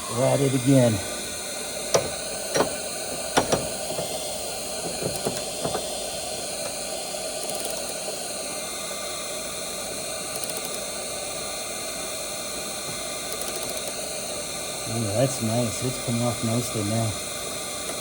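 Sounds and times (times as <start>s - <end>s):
induction heater hissing: 0.0s - 18.0s.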